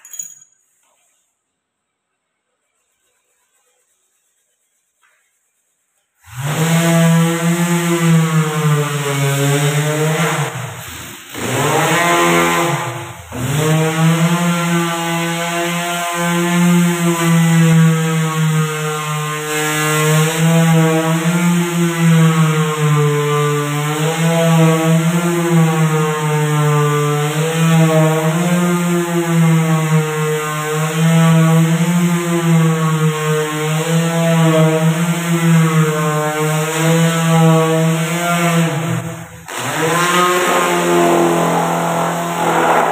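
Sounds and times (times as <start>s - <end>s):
orbital sander humming on wood: 6.2s - 10.8s, 11.4s - 42.9s.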